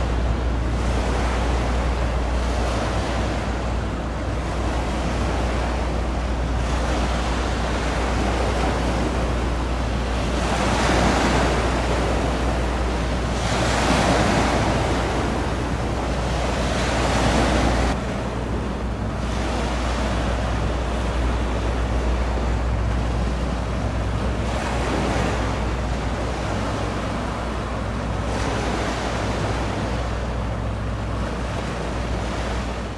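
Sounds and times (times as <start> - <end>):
steady low rumble: 0.0 - 32.9
water washing and lapping: 0.0 - 32.9.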